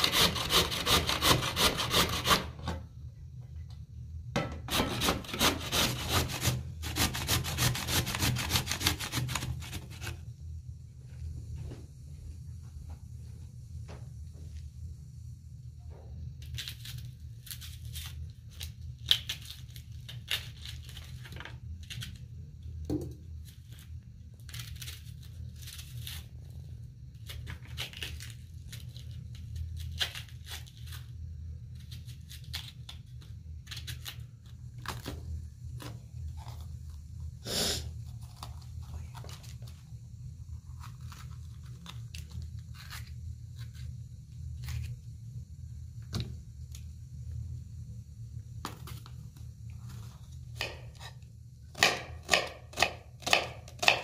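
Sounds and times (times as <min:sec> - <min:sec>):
knife peeling onion skins: 0:00.0 - 0:02.9, 0:04.6 - 0:10.3, 0:16.3 - 0:47.5, 0:48.6 - 0:54.0
steady low hum: 0:00.0 - 0:54.0.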